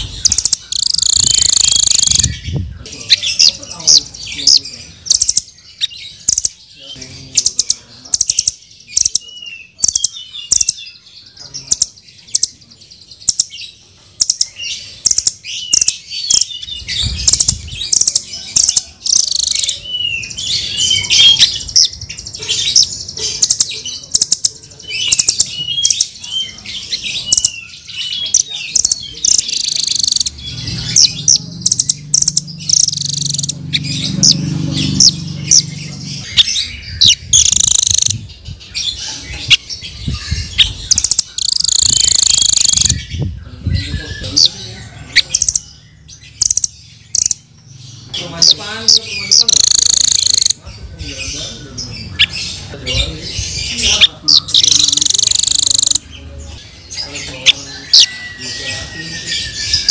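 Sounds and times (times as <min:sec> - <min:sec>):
bird chirping rapidly: 0:00.0 - 0:59.9.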